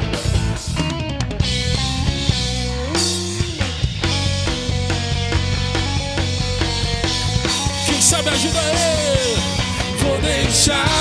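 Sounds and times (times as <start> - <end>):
drum kit: 0.0 - 11.0
electric guitar: 0.0 - 11.0.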